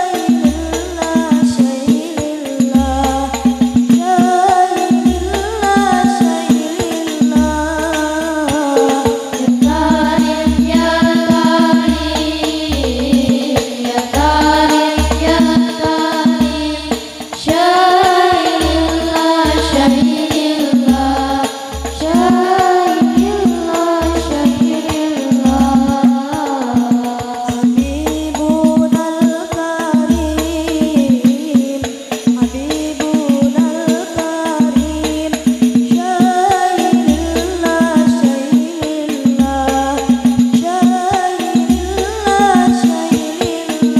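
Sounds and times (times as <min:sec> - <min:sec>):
quick percussive beats: 0:00.0 - 0:43.9
women singing devotional song: 0:00.0 - 0:43.9.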